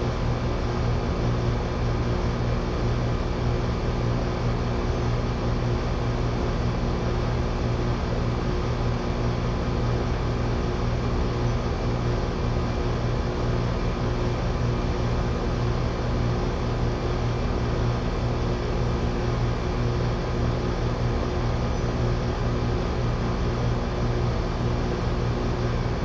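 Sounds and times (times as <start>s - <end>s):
electrical hum: 0.0s - 26.0s
heat pump running: 0.0s - 26.0s.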